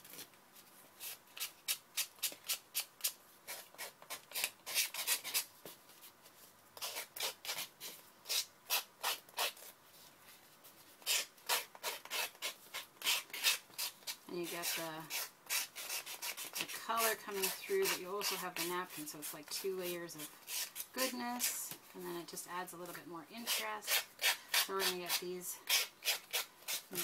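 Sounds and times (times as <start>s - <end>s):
wooden stick scraping paper: 1.0s - 22.1s, 23.4s - 27.0s.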